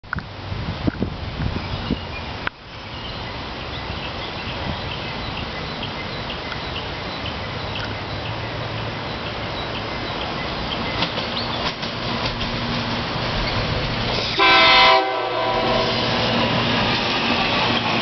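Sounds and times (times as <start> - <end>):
electric train rumble: 0.3 - 18.0.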